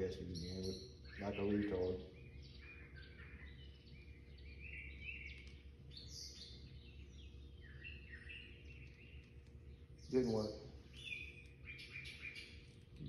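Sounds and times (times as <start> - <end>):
birds chirping faintly: 0.0 - 13.0
steady low hum: 0.0 - 13.0.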